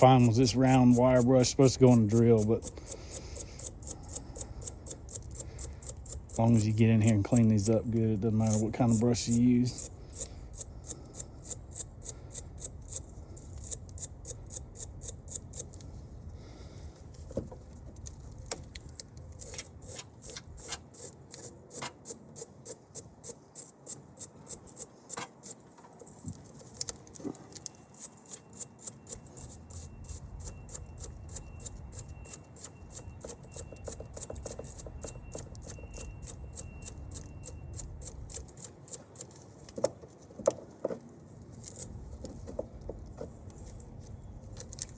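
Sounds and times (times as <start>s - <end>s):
wire brush scrubbing metal: 0.0s - 15.8s, 19.3s - 39.9s.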